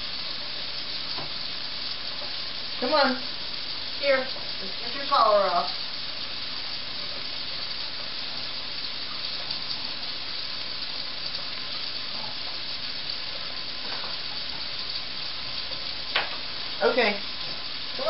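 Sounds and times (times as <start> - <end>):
faucet running into metal sink: 0.0 - 18.0.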